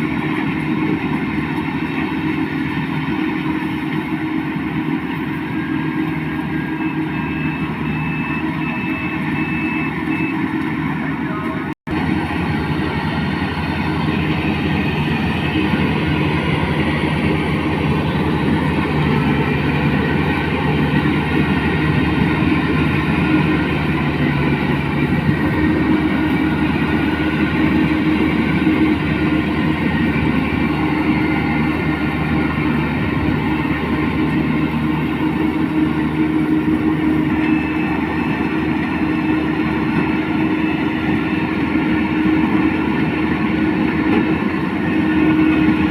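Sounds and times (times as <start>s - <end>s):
combine harvester running: 0.0s - 45.9s.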